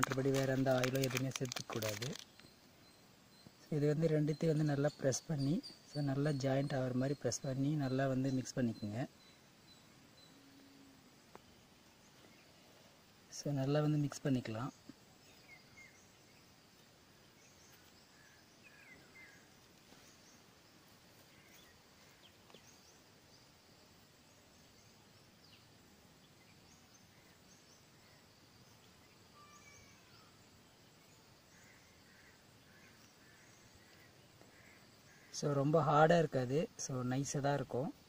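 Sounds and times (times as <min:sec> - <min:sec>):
faint bird chirps: 0:00.0 - 0:38.0.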